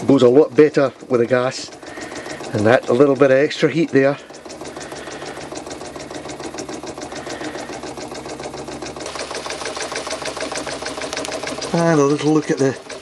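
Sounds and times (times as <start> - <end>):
toy steam engine beating: 0.0 - 13.0.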